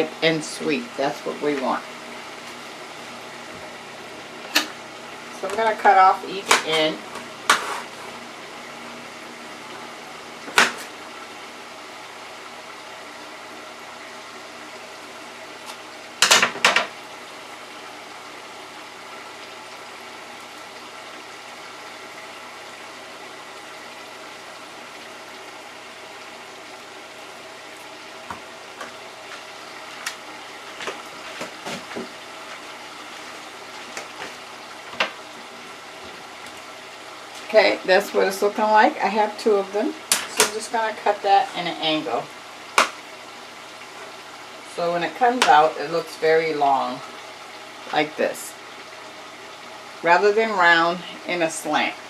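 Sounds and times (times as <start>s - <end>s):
fries bubbling in oil: 0.0s - 52.0s.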